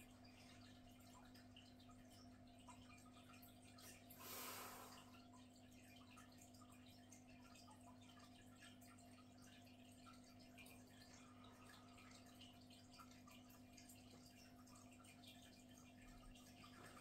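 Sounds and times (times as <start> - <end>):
faint steady hum: 0.0 - 17.0
water dripping: 0.0 - 17.0.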